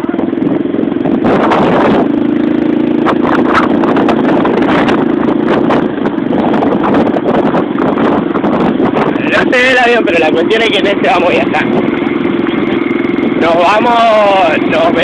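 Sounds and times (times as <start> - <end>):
aircraft piston engine and propeller: 0.0 - 15.0
wind gusting on microphone: 0.0 - 15.0.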